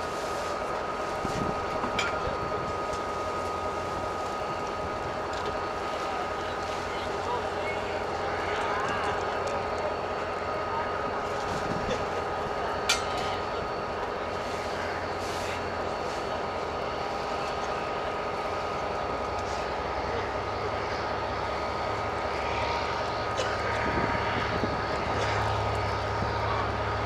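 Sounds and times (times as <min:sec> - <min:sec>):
diesel locomotive rumble: 0:00.0 - 0:27.0.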